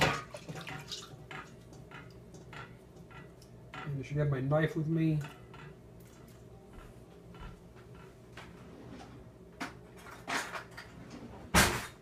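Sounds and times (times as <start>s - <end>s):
kitchenware clattering: 0.0s - 12.0s.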